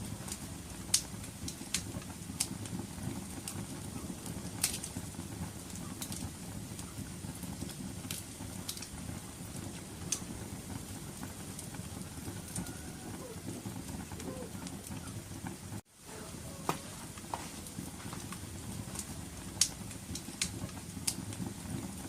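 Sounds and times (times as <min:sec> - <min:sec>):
fire crackling and popping: 0:00.0 - 0:22.0
low flame rumble: 0:00.0 - 0:22.0.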